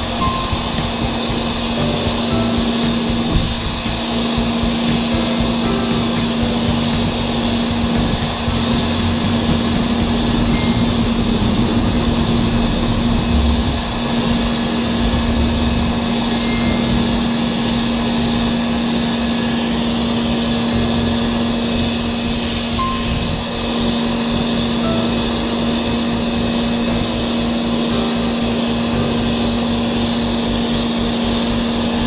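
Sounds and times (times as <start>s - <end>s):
pressure washer motor humming: 0.0s - 32.0s
water jet hissing on concrete: 0.0s - 32.0s.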